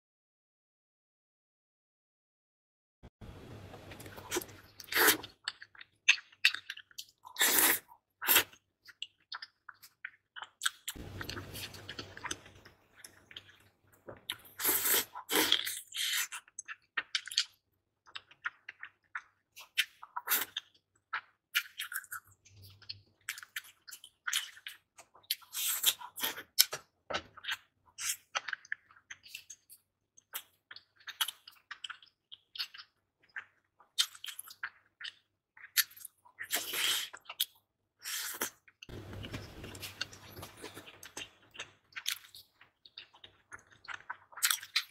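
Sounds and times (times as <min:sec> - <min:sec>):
wet chewing: 0:03.9 - 0:44.9.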